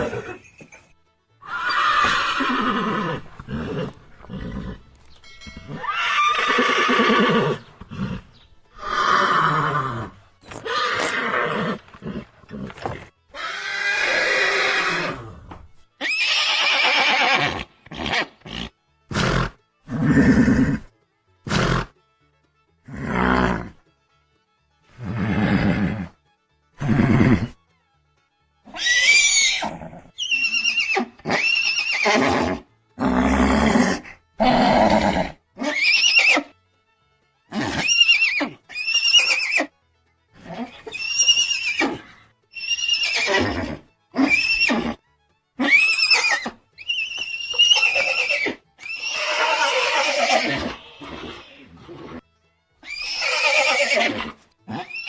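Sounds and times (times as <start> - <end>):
horses neighing: 0.0 - 5.0, 5.6 - 20.9, 25.0 - 26.1, 26.8 - 27.6, 28.7 - 36.5, 37.5 - 39.7, 40.4 - 45.0, 45.6 - 52.2, 52.8 - 55.0.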